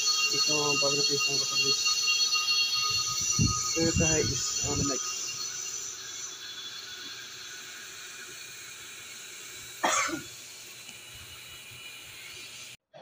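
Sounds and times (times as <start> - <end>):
brake lathe cutting hiss: 0.0 - 12.8.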